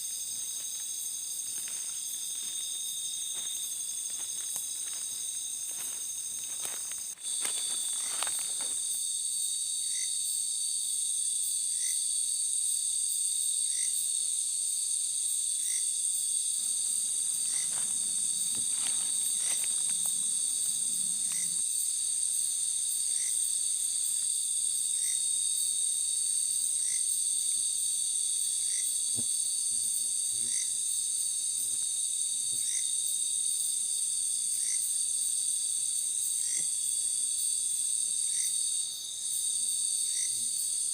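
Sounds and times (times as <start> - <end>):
crickets trilling: 0.0 - 40.9
short insect chirp: 0.0 - 40.9.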